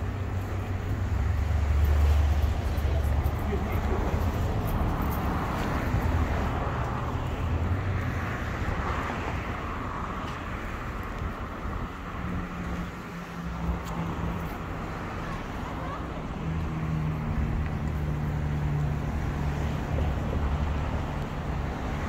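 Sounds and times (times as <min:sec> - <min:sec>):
background traffic: 0:00.0 - 0:22.0.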